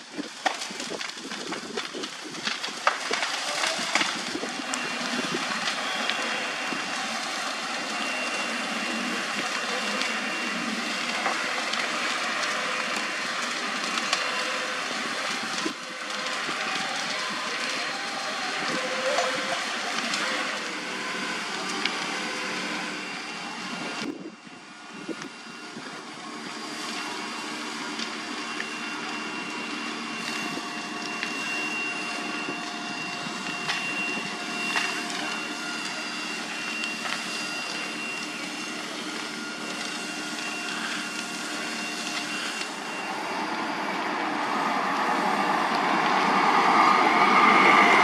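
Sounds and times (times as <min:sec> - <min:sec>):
fire engine pumps droning: 0:00.0 - 0:48.0
hoses spraying water: 0:01.7 - 0:23.9, 0:26.5 - 0:48.0.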